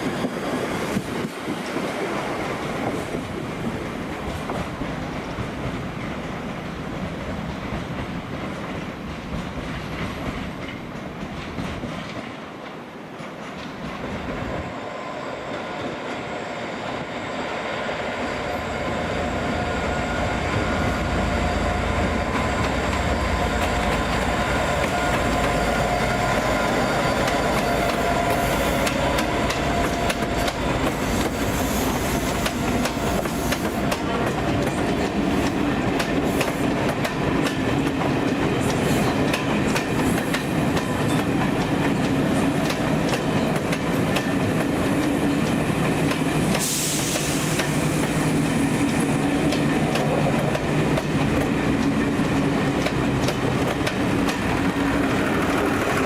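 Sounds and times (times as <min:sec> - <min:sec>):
train wheels clicking over rail joints: 0:00.0 - 0:14.6, 0:22.3 - 0:56.0
train humming and rumbling: 0:00.0 - 0:56.0.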